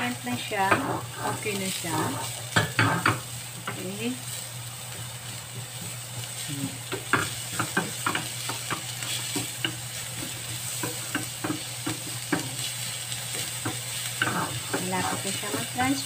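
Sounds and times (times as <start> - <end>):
onion sizzling in frying pan: 0.0 - 16.0
spatula scraping pan: 0.3 - 3.4, 5.0 - 16.0.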